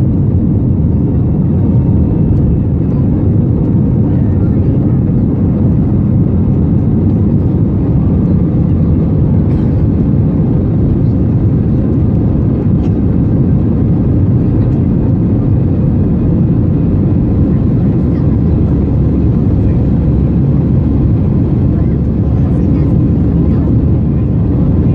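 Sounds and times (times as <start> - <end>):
aircraft engine rumble in cabin: 0.0 - 24.9.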